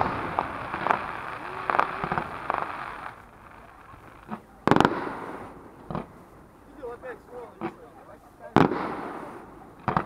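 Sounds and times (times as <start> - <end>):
fireworks bangs with crackling: 0.0 - 10.0.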